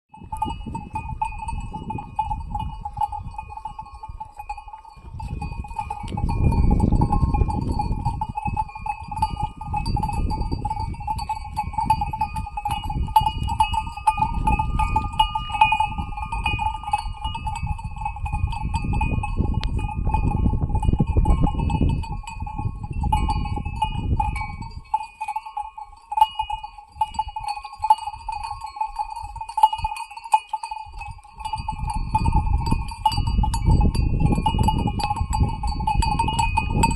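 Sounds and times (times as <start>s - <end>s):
livestock bells clinking: 0.1s - 36.9s.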